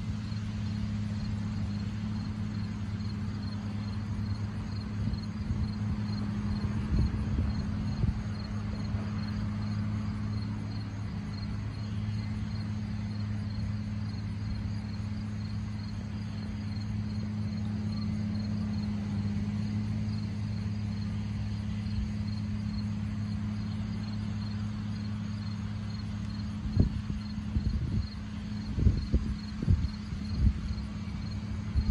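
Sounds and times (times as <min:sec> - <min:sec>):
combine harvester droning: 0:00.0 - 0:31.9.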